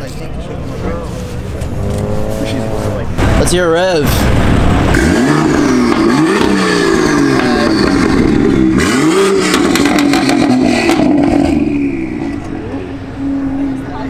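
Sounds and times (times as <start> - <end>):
car engine revving: 0.3 - 14.0.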